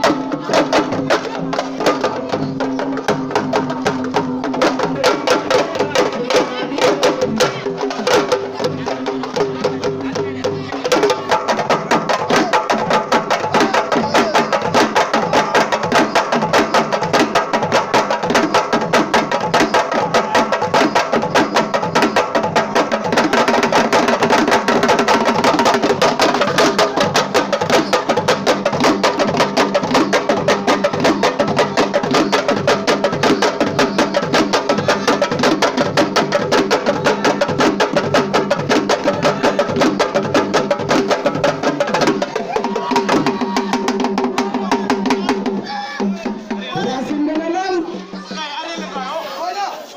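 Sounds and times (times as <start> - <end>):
drums played fast: 0.0 - 49.6.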